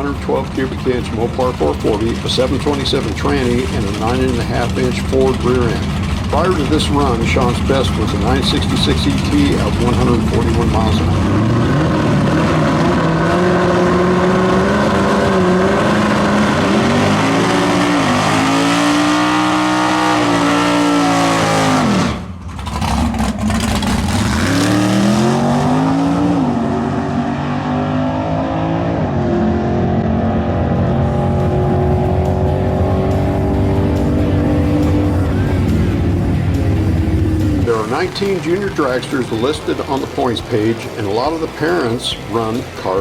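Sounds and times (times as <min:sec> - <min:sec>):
loud engine revving: 0:00.0 - 0:43.0.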